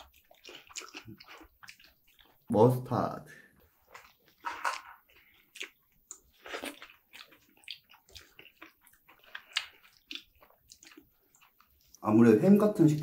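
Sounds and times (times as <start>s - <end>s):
person chewing with wet smacks: 0.0s - 2.6s, 3.6s - 12.1s.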